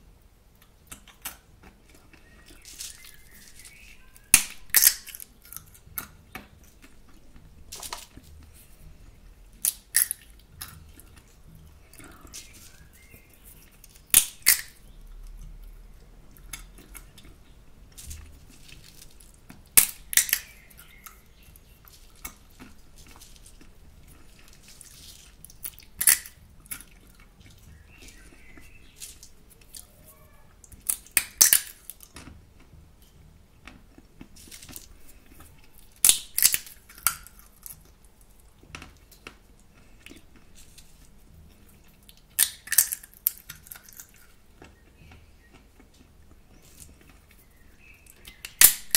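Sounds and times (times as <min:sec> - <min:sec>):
sunflower seeds cracking between teeth: 0:00.6 - 0:08.9, 0:09.5 - 0:30.0, 0:30.6 - 0:32.7, 0:33.6 - 0:48.9.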